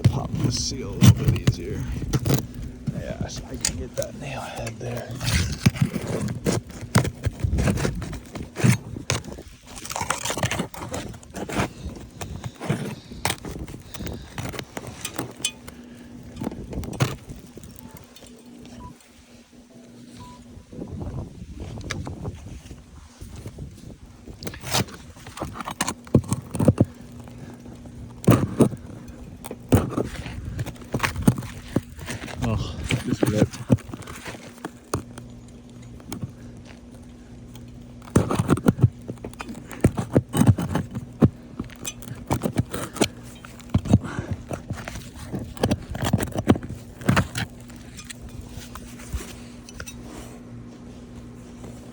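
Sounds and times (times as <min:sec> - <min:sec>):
tool scraping under roof shingles: 0:00.0 - 0:20.4, 0:21.4 - 0:51.9.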